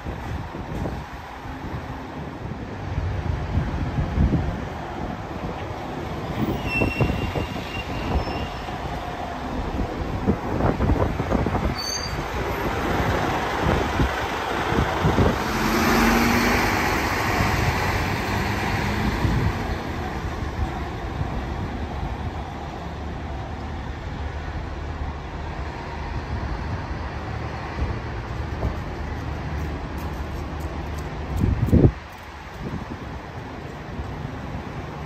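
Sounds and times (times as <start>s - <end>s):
bus moving off: 0.0s - 35.0s
buses and cars running: 0.0s - 35.0s
rumble of engines and tyres: 0.0s - 35.0s.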